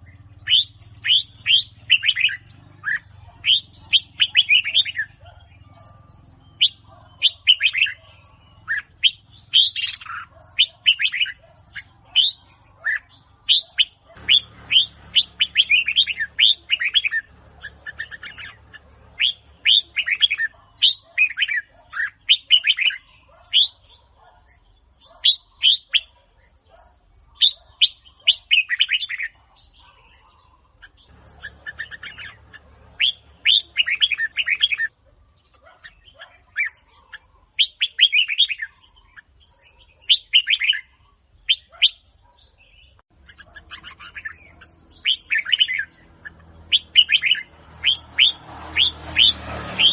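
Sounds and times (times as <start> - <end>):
bird singing whistled notes: 0.0 - 26.8, 27.4 - 49.9.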